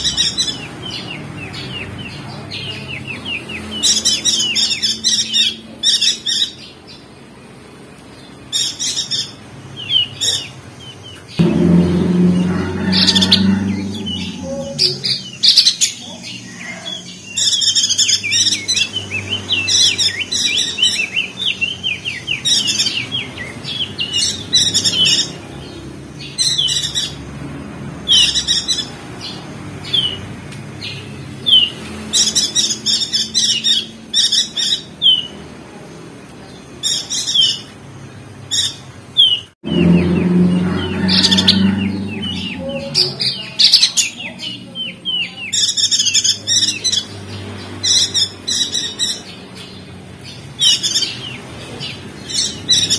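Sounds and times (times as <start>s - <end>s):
birds chirping and trilling: 0.0s - 52.9s.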